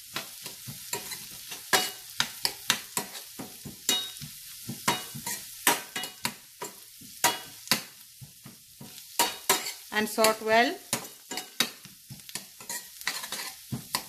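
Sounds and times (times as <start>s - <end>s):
onions sizzling in oil: 0.0s - 14.0s
metal spoon scraping a pan: 0.1s - 8.0s, 8.8s - 14.0s.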